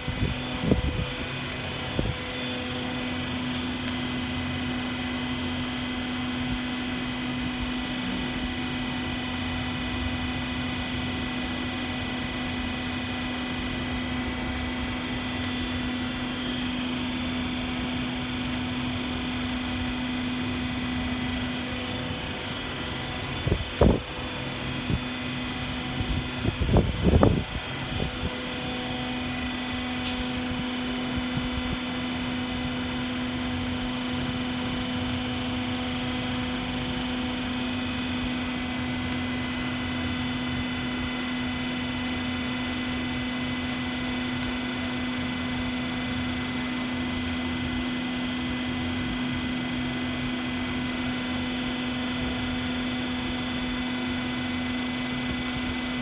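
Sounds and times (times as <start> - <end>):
hydraulic power pack humming: 0.0 - 56.0.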